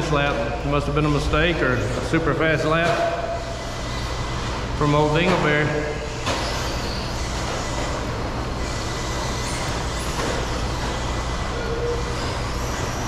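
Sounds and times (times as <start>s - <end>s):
high motor whines: 0.0s - 13.0s
steady low hum: 0.0s - 13.0s.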